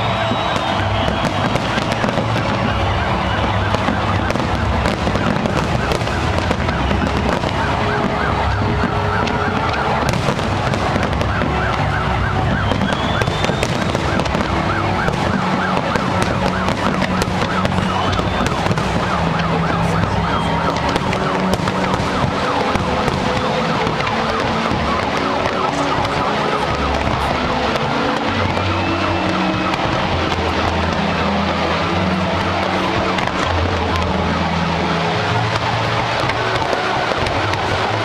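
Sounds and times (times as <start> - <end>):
crowd din: 0.0 - 38.0
fireworks crackling: 0.0 - 38.0
warbling siren tone: 0.0 - 38.0.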